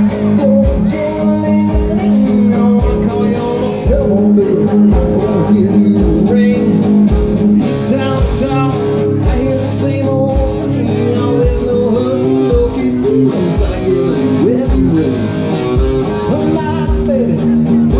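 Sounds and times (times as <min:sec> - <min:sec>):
live rock band playing: 0:00.0 - 0:17.9.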